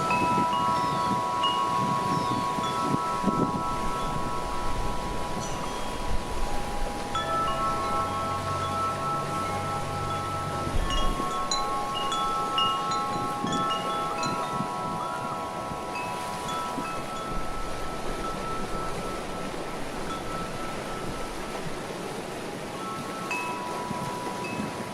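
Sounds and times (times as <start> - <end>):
wind chime ringing: 0.0 - 24.9
wind rumble on microphone: 0.0 - 24.9.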